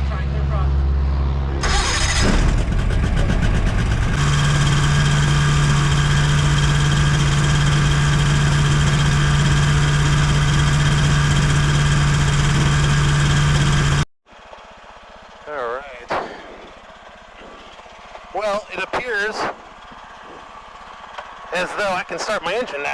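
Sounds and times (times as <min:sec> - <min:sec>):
two-stroke engine idling: 0:01.6 - 0:22.9.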